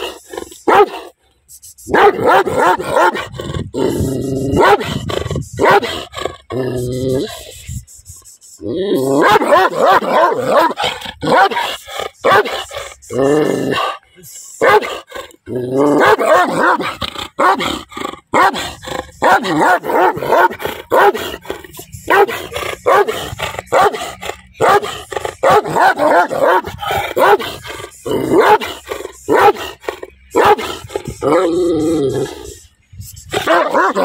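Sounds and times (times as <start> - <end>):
dog barking aggressively: 0.0 - 1.1, 1.9 - 6.6, 9.1 - 14.0, 14.6 - 32.5, 33.3 - 34.0.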